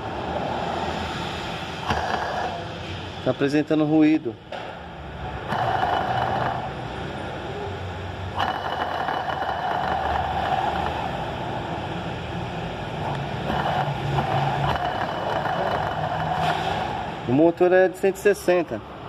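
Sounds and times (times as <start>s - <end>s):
rough whirring of bearing: 0.0s - 3.2s, 4.8s - 17.4s
street traffic: 0.0s - 19.0s.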